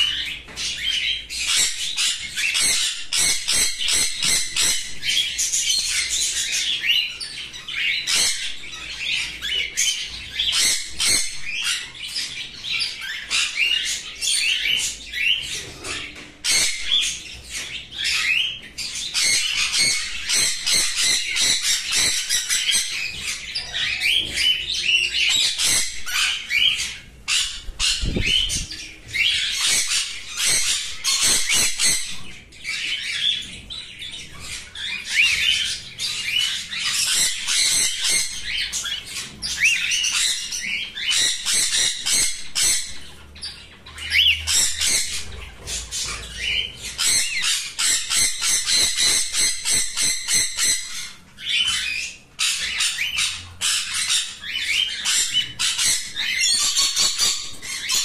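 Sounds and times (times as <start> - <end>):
cockatiels chirping and squawking: 0.0 - 58.0.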